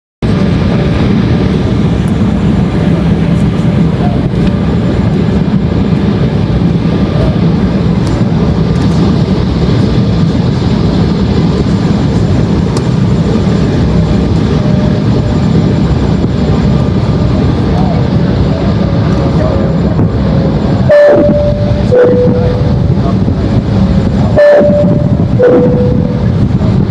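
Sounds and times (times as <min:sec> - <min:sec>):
jet engine and airflow in cabin: 0:00.2 - 0:26.9.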